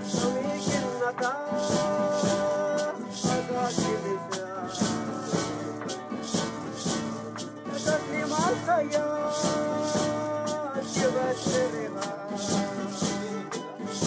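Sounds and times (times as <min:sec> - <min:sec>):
pitched melody: 0:00.0 - 0:14.0
shaker rhythm: 0:00.0 - 0:14.0.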